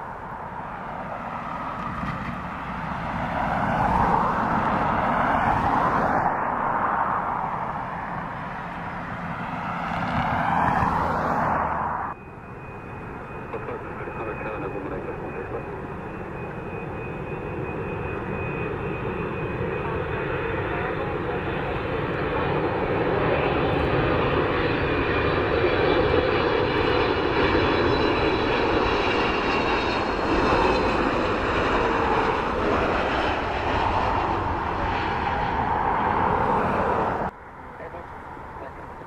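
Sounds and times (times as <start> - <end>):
jet engines with fan whine: 0.0 - 39.0.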